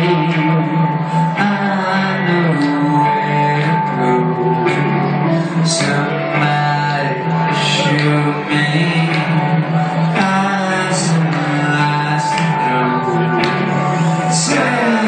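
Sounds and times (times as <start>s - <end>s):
man singing into microphone: 0.0s - 15.0s
rock band playing electric guitars: 0.0s - 15.0s.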